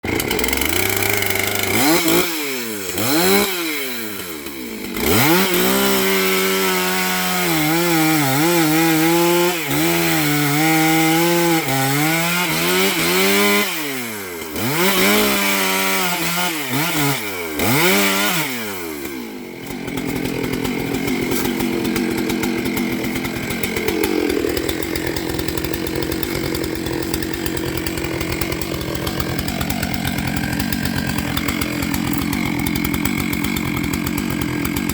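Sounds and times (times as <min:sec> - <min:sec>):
chainsaw engine revving: 0:00.0 - 0:34.9.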